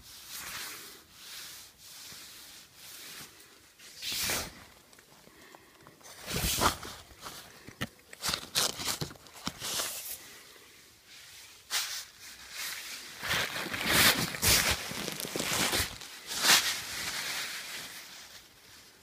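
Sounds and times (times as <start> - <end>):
tent fabric rustling against camera: 0.0 - 7.6, 11.0 - 19.0.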